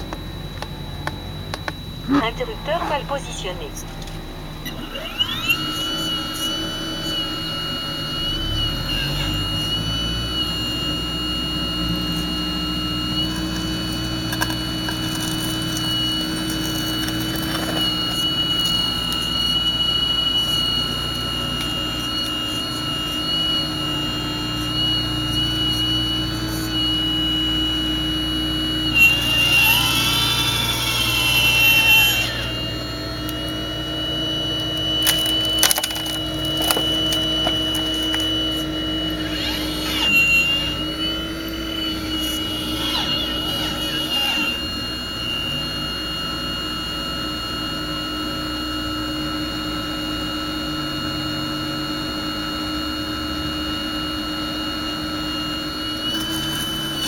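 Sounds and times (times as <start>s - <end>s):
model excavator mechanical whine: 0.0s - 57.0s.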